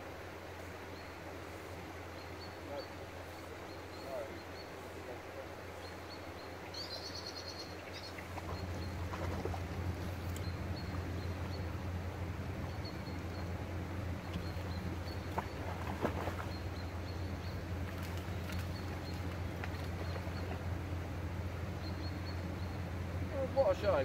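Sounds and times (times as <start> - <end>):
bird chirping: 2.1 - 24.0.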